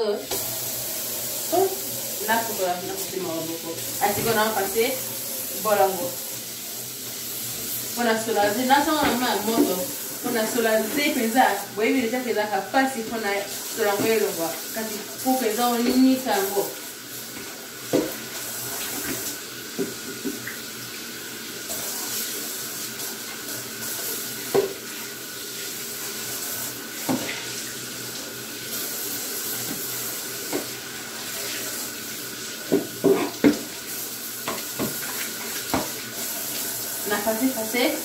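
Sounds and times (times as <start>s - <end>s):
tap water running into sink: 0.0s - 38.0s.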